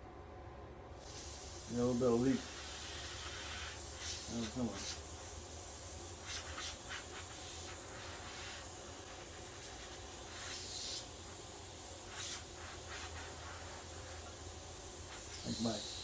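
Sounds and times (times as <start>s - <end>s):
compressed air hissing: 0.9s - 16.0s.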